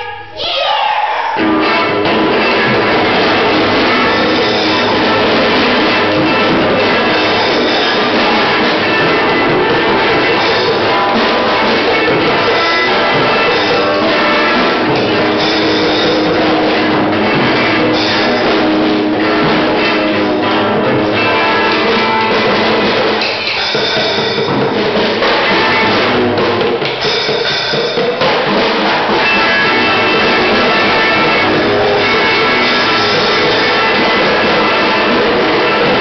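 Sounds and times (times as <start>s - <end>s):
loud music: 0.0s - 36.0s
child hitting drums and cymbal: 1.4s - 36.0s.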